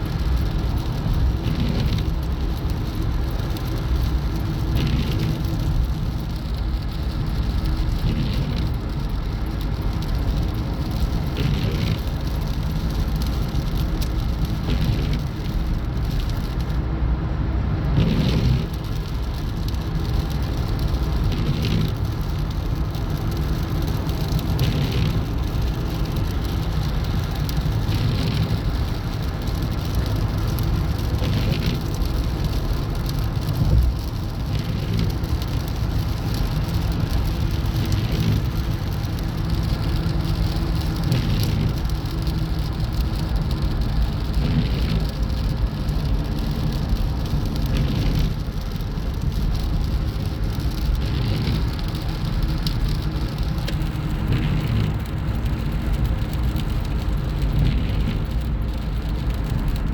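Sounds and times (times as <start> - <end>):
vehicle road and engine noise: 0.0 - 59.9.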